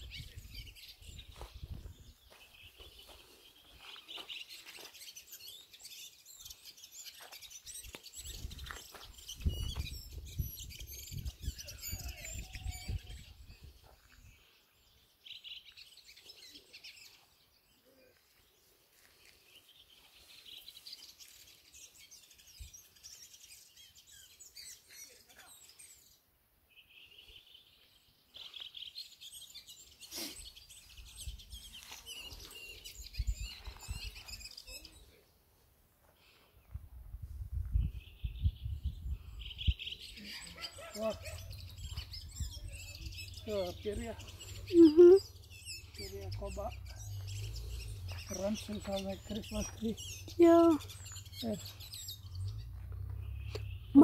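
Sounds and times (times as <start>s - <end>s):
songbirds twittering: 0.0s - 35.4s, 36.1s - 54.0s.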